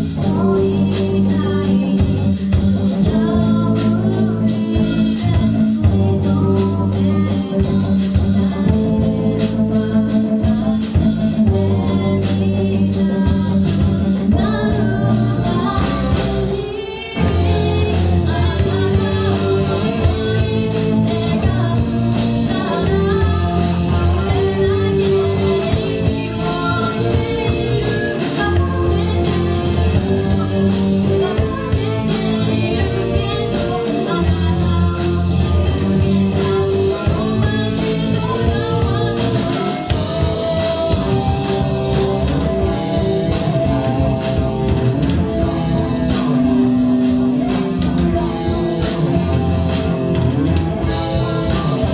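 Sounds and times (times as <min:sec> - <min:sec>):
live rock band playing: 0:00.0 - 0:51.9
person singing: 0:00.0 - 0:51.9.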